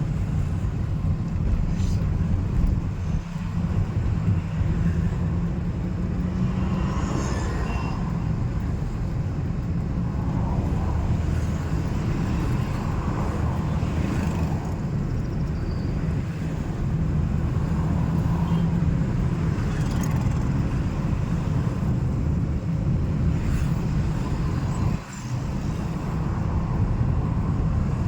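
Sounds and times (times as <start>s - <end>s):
car engine and tyre rumble: 0.0s - 28.0s
faint passing traffic: 0.0s - 28.0s.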